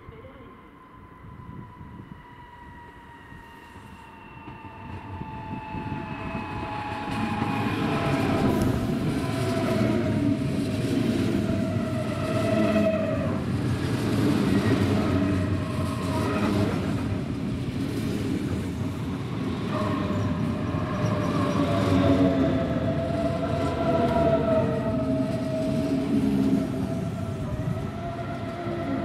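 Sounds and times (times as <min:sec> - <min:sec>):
train wheel rumble: 0:00.8 - 0:29.0.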